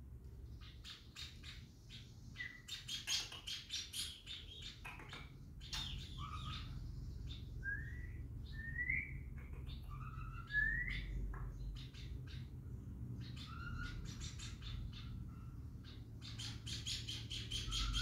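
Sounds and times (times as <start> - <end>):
songbird chirping and whistling: 0.6 - 12.6, 13.2 - 18.0.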